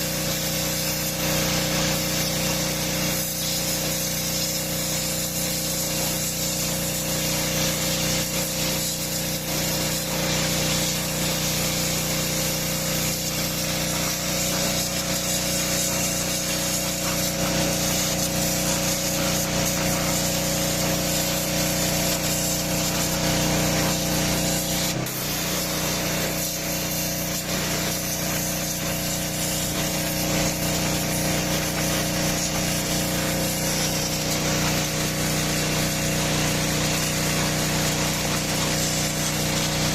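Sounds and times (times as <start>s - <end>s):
high-pressure water spray hissing: 0.0s - 39.9s.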